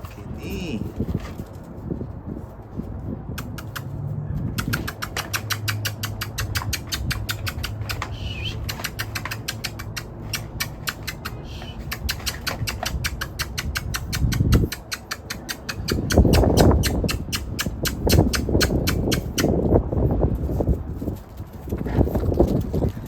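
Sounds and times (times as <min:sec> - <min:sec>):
puppy claws clicking on hard floor: 0:03.4 - 0:23.0.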